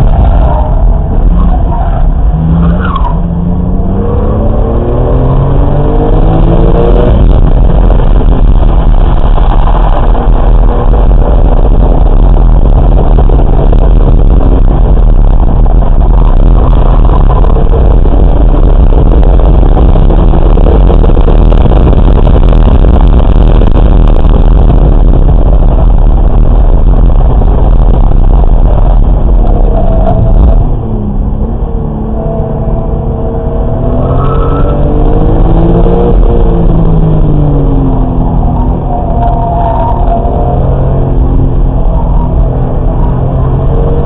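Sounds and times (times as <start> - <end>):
car engine accelerating: 0.0 - 44.0
wind noise: 0.0 - 44.0.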